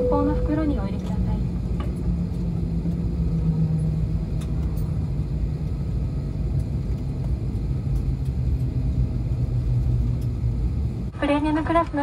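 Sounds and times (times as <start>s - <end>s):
aircraft cabin hum and rumble: 0.0s - 12.0s.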